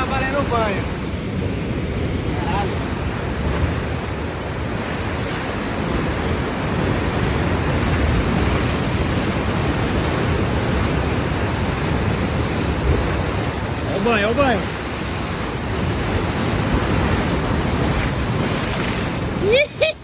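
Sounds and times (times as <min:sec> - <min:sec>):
sea waves washing: 0:00.0 - 0:20.0
wind on microphone: 0:00.0 - 0:20.0.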